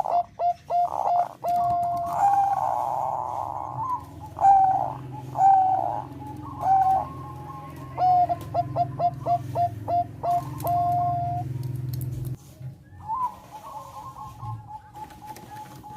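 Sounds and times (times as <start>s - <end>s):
dove cooing: 0.0s - 11.8s, 12.9s - 15.9s.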